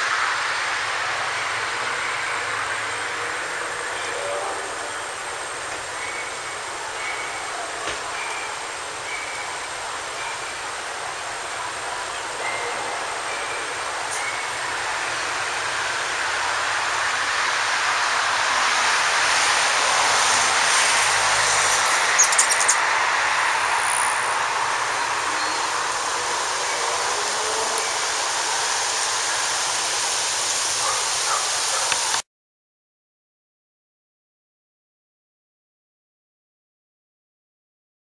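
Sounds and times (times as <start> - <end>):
road traffic rushing: 0.0 - 32.2.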